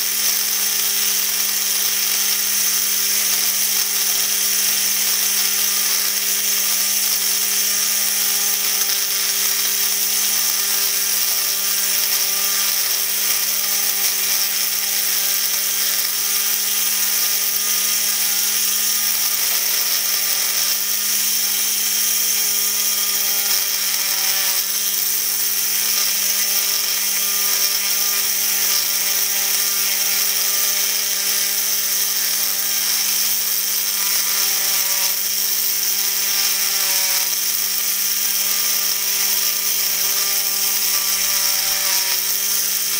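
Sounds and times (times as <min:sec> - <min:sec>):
drill bit grinding: 0:00.0 - 0:42.9
electric drill humming: 0:00.0 - 0:42.9.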